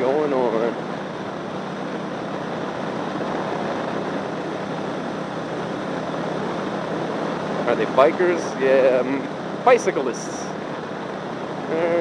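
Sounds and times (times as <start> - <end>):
motorcycle engine drone: 0.0 - 12.0
wind and road noise: 0.0 - 12.0.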